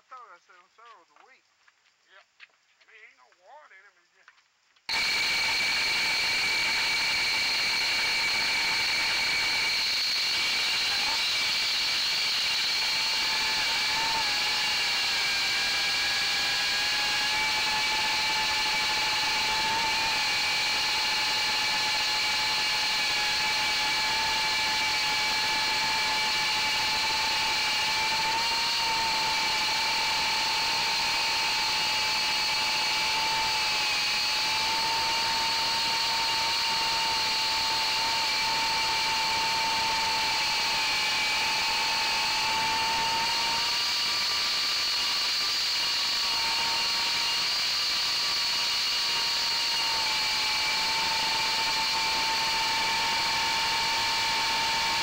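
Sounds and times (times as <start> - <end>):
drone motors whining: 4.9 - 55.0.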